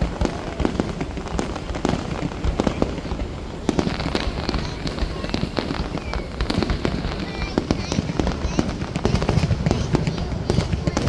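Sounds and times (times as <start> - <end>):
fireworks bangs and crackling pops: 0.0 - 11.0.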